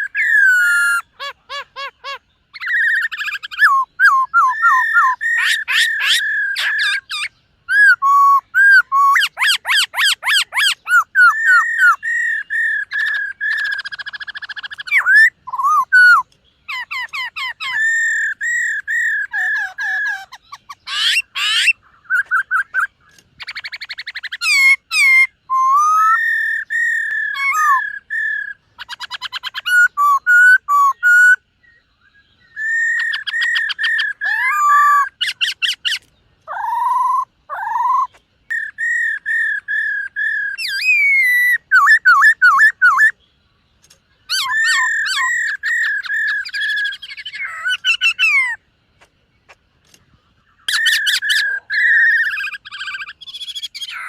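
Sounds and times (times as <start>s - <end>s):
bird singing whistled notes and trills: 0.0s - 54.0s.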